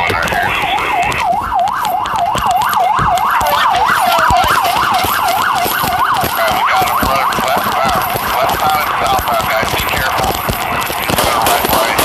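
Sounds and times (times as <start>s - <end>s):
siren in yelp mode: 0.0s - 12.0s.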